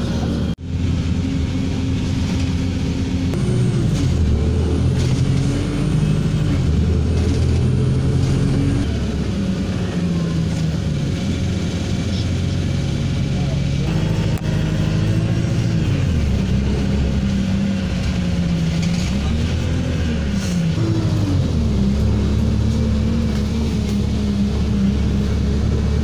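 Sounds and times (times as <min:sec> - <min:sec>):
bus engine hum: 0:00.0 - 0:26.0
road rumble: 0:00.0 - 0:26.0.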